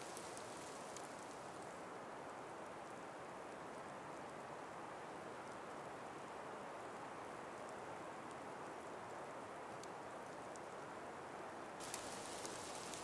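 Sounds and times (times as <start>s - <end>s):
breeze through forest: 0.0s - 13.0s.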